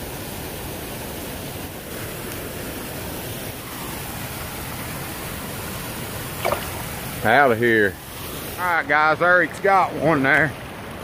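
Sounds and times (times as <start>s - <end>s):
waterfall and river rushing: 0.0s - 11.0s.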